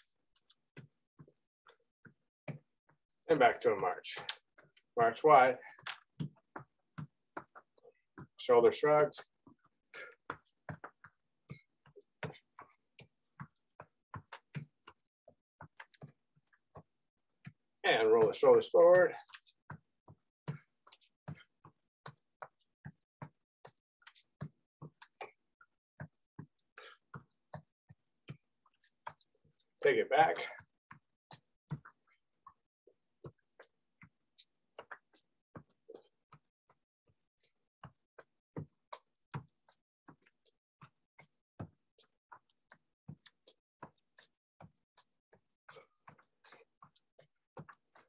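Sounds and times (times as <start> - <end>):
footfalls marching in place: 0.4 - 48.0.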